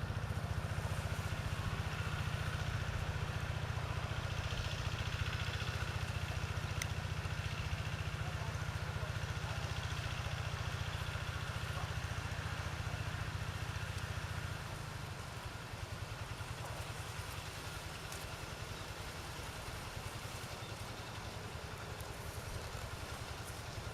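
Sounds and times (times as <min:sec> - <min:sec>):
diesel tractor engine chugging: 0:00.0 - 0:23.9.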